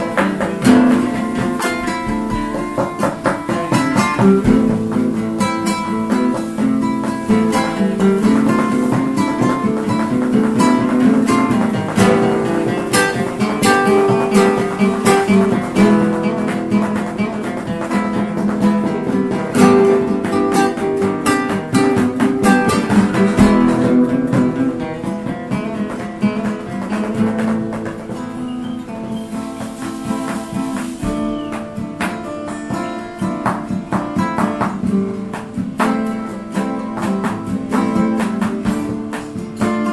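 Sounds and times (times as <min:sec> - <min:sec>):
drums: 0:00.0 - 0:39.9
strummed acoustic guitar: 0:00.0 - 0:39.9.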